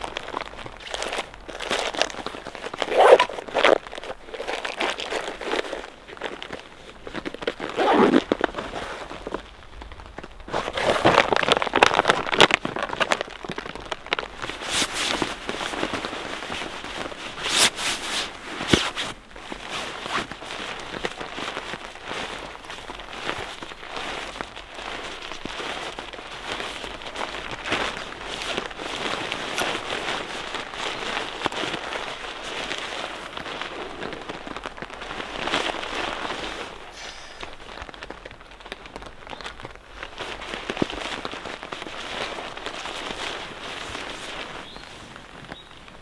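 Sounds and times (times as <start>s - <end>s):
camping gear rustling and crinkling: 0.0s - 46.0s
sharp clicks and crackles: 0.0s - 46.0s.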